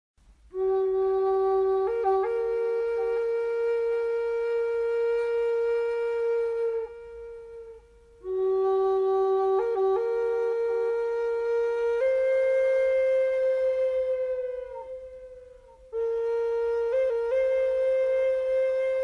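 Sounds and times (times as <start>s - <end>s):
solo flute playing slow notes: 0.4s - 19.0s.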